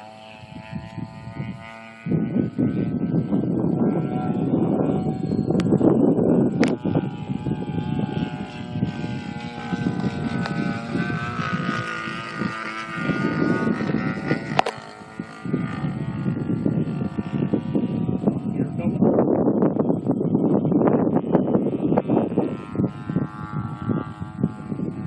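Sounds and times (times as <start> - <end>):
model airplane engine: 0.0 - 25.0.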